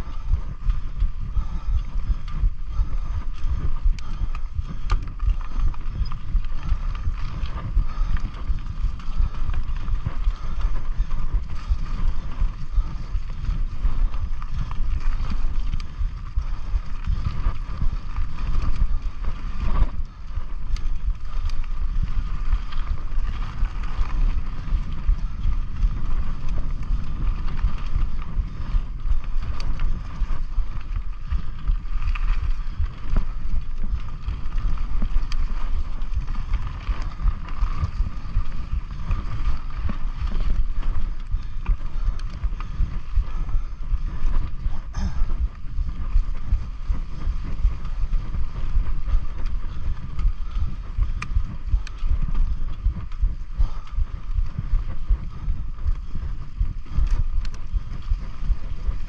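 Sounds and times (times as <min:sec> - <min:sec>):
bike rattling over bumps: 0:00.0 - 0:59.0
bike tyres on dirt: 0:00.0 - 0:59.0
wind rumble on microphone: 0:00.0 - 0:59.0.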